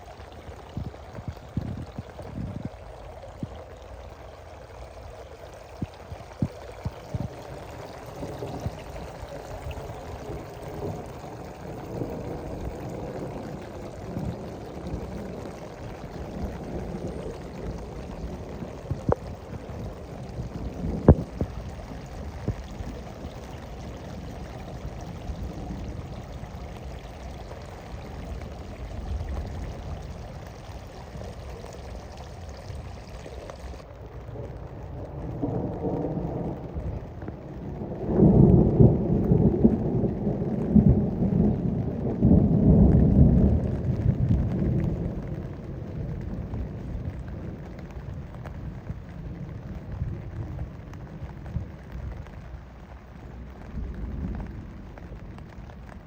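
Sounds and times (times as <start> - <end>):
steady rain: 0.0 - 56.0
rolling thunder: 5.8 - 52.6.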